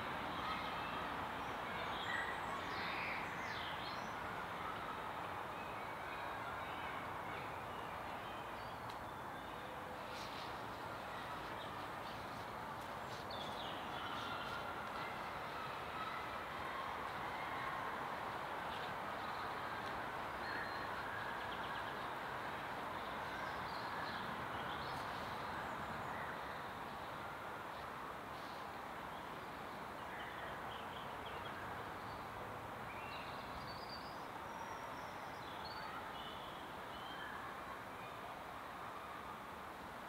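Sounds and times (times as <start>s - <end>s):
outdoor ambience hiss: 0.0s - 40.0s.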